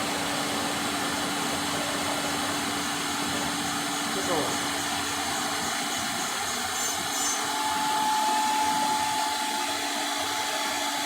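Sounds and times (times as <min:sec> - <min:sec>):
wood router mechanical whine: 0:00.0 - 0:11.0.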